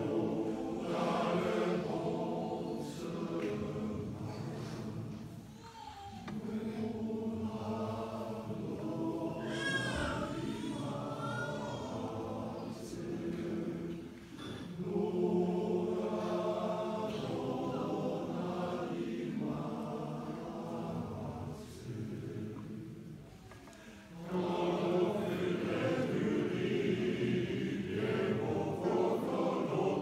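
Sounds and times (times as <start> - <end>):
choir singing unaccompanied: 0.0 - 30.0.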